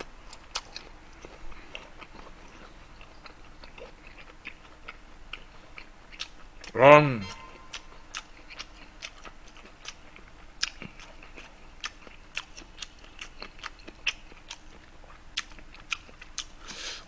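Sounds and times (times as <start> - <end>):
close chewing clicks and smacks: 0.3 - 6.7, 8.2 - 16.6.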